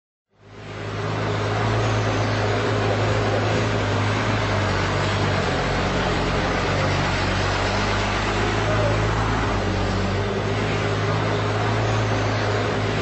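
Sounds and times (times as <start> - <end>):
low mechanical hum: 0.3 - 13.0
even rushing noise: 0.4 - 13.0.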